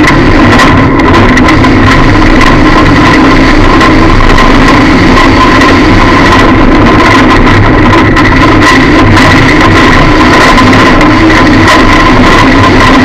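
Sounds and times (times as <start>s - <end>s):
distorted car engine running: 0.0s - 13.0s
rattles: 0.0s - 13.0s
steady high whine: 0.0s - 13.0s.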